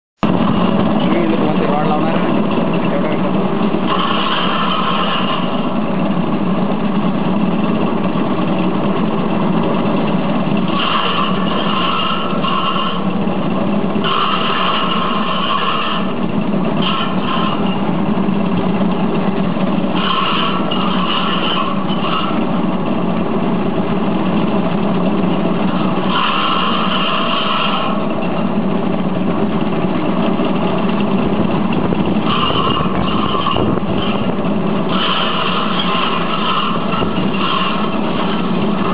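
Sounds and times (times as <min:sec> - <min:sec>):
high whine: 0:00.2 - 0:38.9
thresher noise: 0:00.2 - 0:38.9
small engine running: 0:00.4 - 0:38.9.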